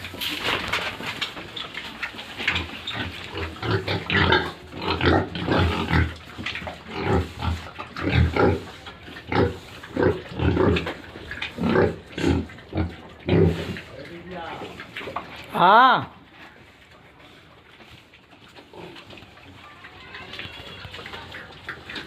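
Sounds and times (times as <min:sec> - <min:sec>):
pigs grunting and squealing: 0:00.0 - 0:16.3, 0:18.5 - 0:22.0.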